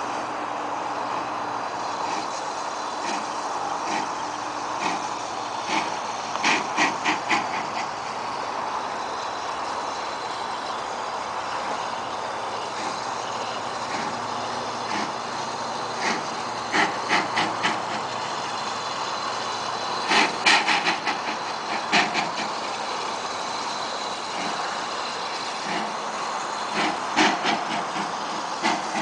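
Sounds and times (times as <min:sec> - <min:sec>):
sharp exhaust chuffs: 0:00.0 - 0:29.0
steam locomotive hiss and rumble: 0:00.0 - 0:29.0.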